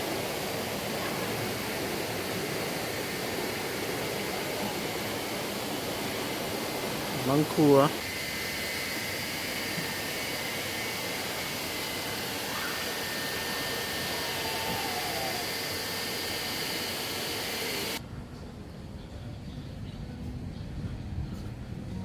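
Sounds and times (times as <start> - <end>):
brief gliding call: 0.0 - 18.0
steady rushing noise: 0.0 - 18.2.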